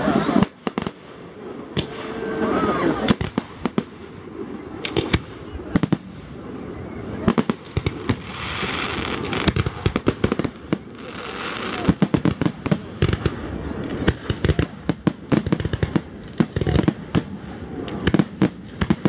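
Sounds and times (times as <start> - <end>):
fireworks bangs: 0.0 - 19.0
fireworks crackling hiss: 0.0 - 19.0.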